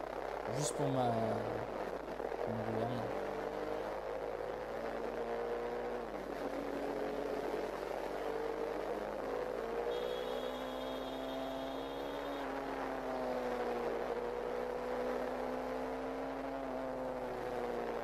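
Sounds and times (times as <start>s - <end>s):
wind and road noise: 0.0s - 18.0s
motorcycle engine running: 2.6s - 18.0s.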